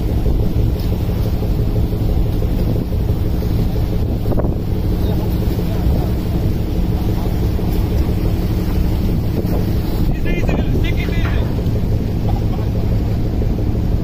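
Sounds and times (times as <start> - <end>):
boat engine hum: 0.0 - 14.0
water rushing along hull: 0.0 - 14.0
wind buffeting microphone: 0.0 - 14.0.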